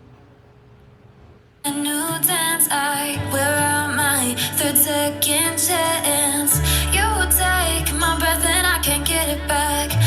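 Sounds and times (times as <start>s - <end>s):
pop song through a speaker: 1.6s - 10.0s
person singing: 1.7s - 10.0s.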